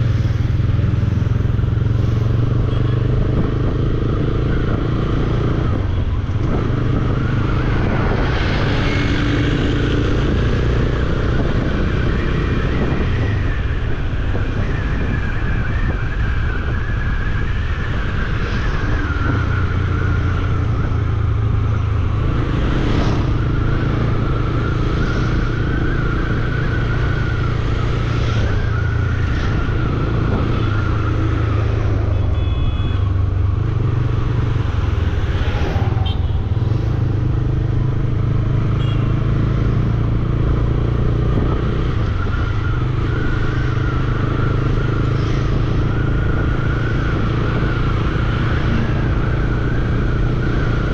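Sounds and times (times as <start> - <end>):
city traffic: 0.0 - 50.9.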